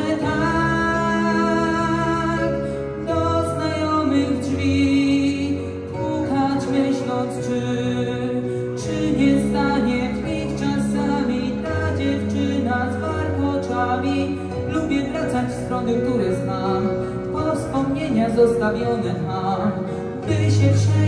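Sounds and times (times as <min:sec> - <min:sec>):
man singing into a microphone: 0:00.0 - 0:21.0
sustained keyboard chords: 0:00.0 - 0:21.0.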